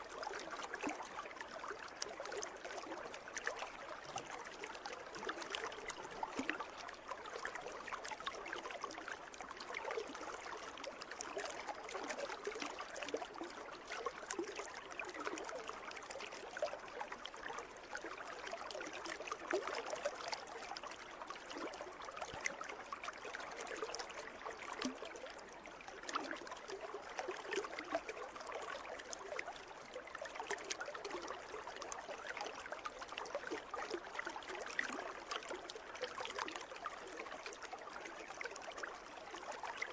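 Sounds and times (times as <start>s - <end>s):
pool water lapping and trickling: 0.0s - 39.9s.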